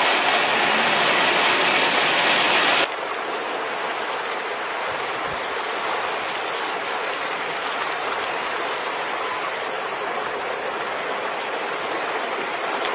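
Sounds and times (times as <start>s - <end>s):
shallow creek water rushing: 0.0s - 12.9s.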